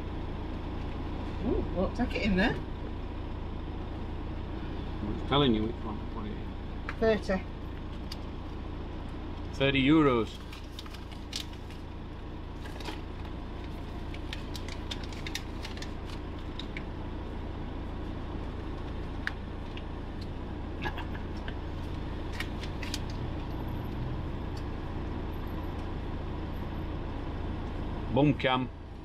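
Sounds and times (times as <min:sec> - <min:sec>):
engine idling low hum: 0:00.0 - 0:29.0.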